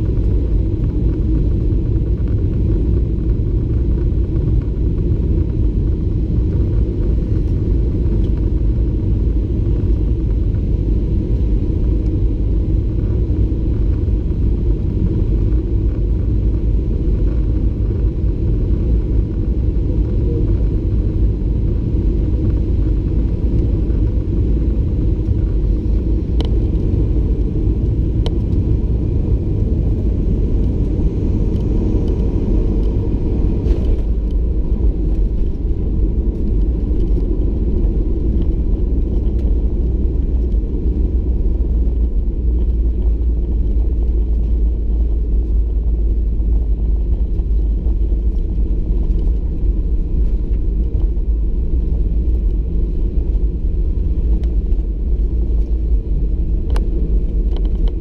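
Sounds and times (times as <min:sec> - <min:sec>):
deep rumble of jet rolling out: 0:00.0 - 0:58.0
jet engine and airflow rumble: 0:00.0 - 0:58.0.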